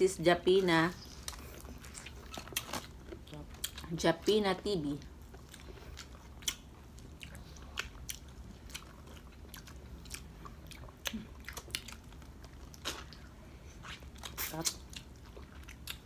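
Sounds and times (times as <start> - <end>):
people chewing orange wedges: 1.0 - 4.4, 5.0 - 16.0.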